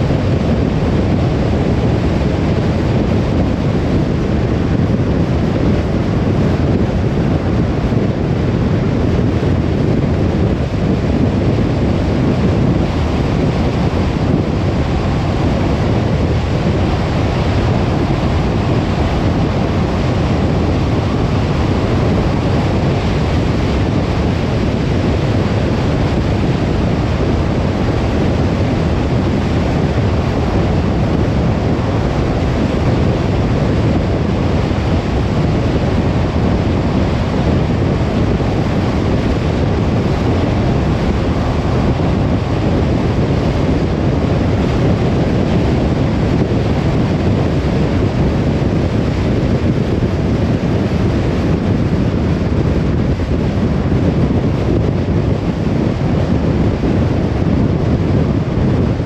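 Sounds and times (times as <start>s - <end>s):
road and tyre noise: 0.0s - 59.0s
wind rush in car cabin: 0.0s - 59.0s.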